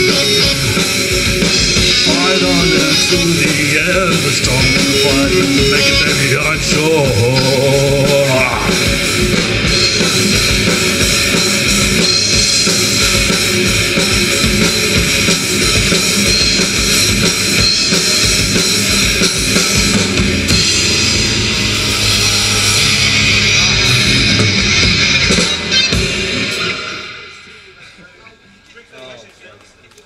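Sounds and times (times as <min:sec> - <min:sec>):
drum kit with cymbals: 0:00.0 - 0:27.3
electric guitars: 0:00.0 - 0:27.3.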